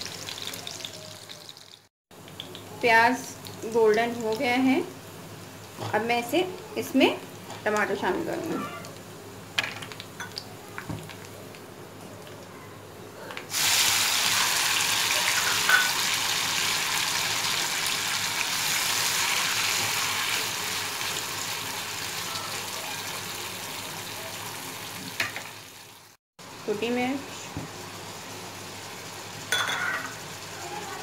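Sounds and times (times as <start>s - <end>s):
tomatoes sizzling in hot oil: 0.0s - 11.6s, 13.5s - 31.0s
quiet frying: 0.0s - 31.0s.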